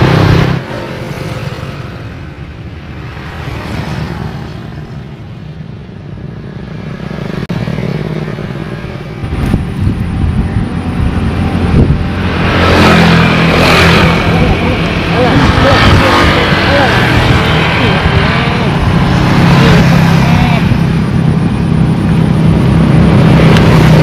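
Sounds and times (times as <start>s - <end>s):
road traffic engine drone: 0.0s - 24.0s
vehicle passing close: 0.0s - 24.0s.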